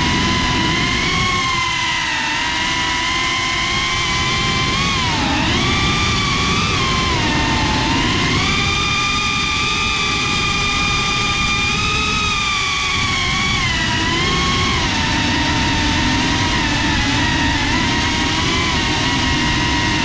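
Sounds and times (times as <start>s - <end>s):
drone motors whining: 0.0s - 20.0s
wind rushing on microphone: 0.0s - 20.0s.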